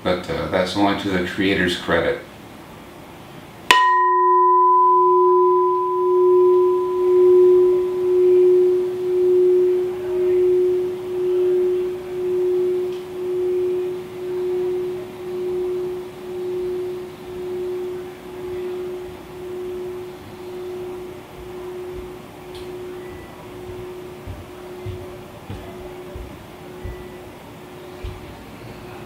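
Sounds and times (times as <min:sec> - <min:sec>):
resonant vessel struck and ringing: 0:03.7 - 0:27.4.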